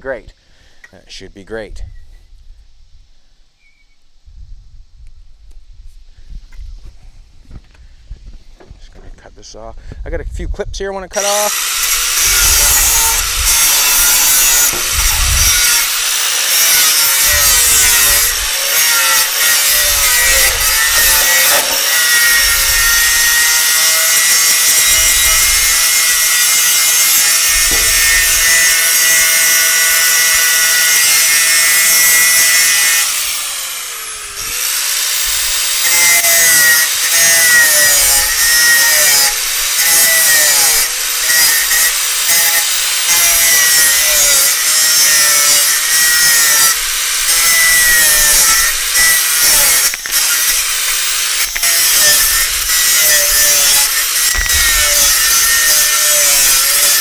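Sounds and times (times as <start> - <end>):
power saw cutting steel: 11.1 - 57.0.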